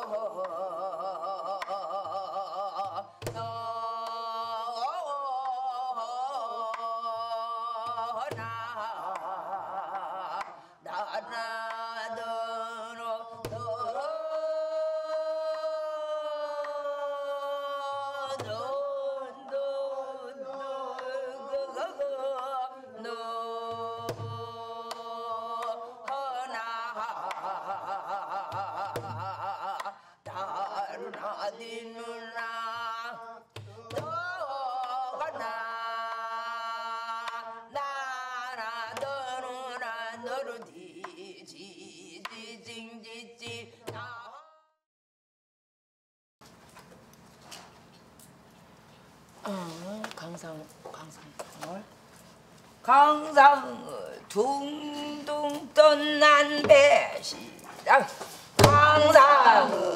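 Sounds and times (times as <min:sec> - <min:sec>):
person singing wordless melody: 0:00.0 - 0:44.8, 0:52.8 - 0:59.9.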